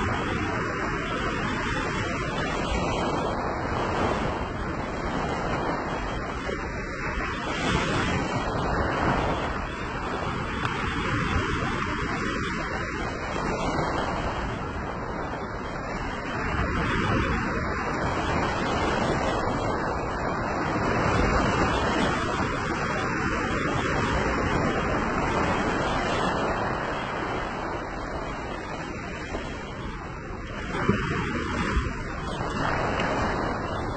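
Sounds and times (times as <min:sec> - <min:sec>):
waves washing up a beach: 0:00.0 - 0:33.9.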